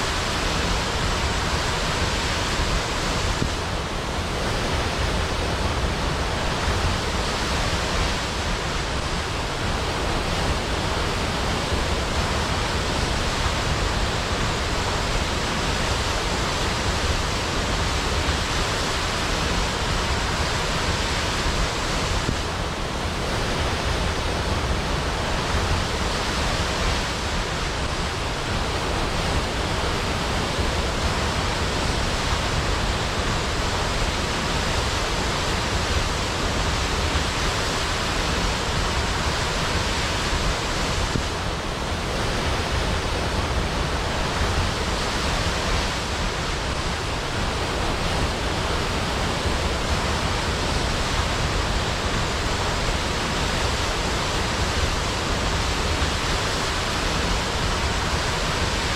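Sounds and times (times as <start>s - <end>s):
waterfall rushing into pool: 0.0s - 58.9s.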